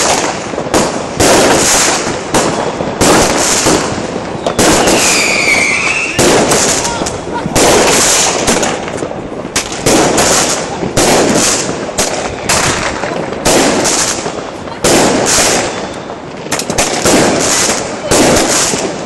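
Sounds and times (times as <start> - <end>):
firework bangs with hissing tails: 0.0 - 19.0
firework crackling: 0.0 - 19.0.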